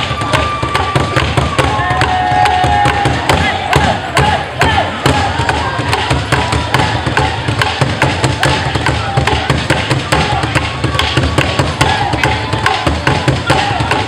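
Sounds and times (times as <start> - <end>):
percussion music with drums: 0.0 - 14.0.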